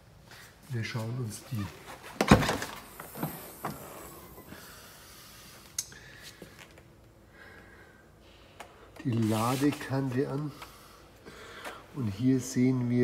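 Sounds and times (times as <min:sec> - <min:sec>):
low hiss: 0:00.0 - 0:06.6, 0:07.2 - 0:13.0.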